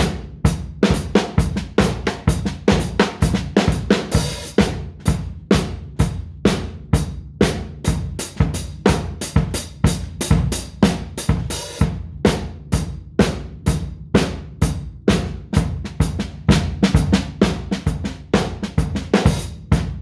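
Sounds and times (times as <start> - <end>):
drum kit groove: 0.0 - 20.0.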